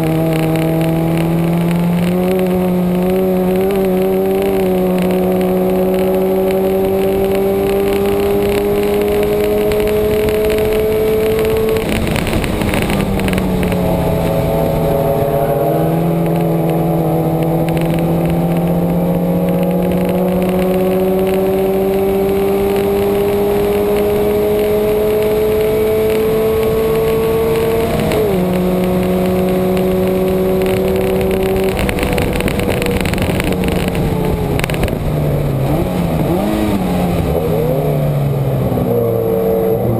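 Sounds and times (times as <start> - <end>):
car engine at high revs: 0.0 - 39.9
wind and road noise: 0.0 - 39.9.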